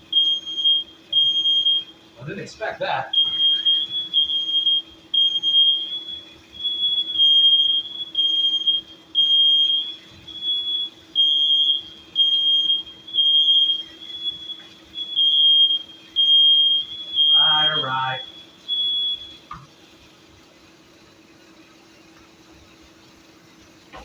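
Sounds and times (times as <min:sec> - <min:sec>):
smoke alarm beeping: 0:00.0 - 0:20.2.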